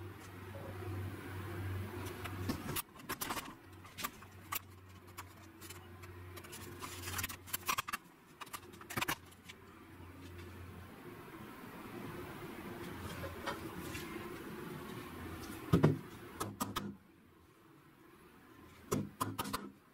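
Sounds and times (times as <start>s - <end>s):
low steady hum: 0.0s - 19.9s.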